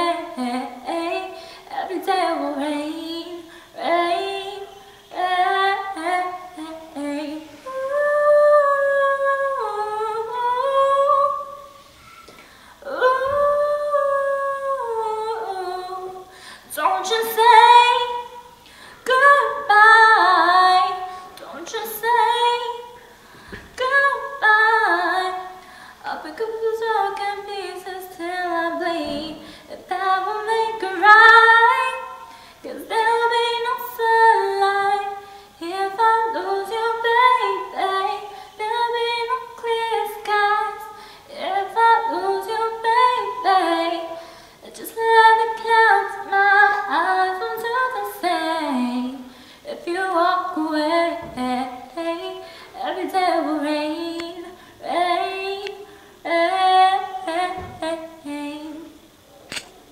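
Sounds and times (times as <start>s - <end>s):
woman singing a cappella: 0.0s - 59.2s.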